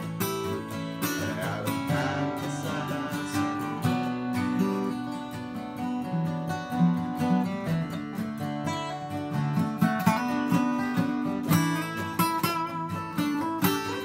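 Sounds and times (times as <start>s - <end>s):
acoustic guitars strumming: 0.0s - 14.0s
mandolin picking: 0.0s - 14.0s.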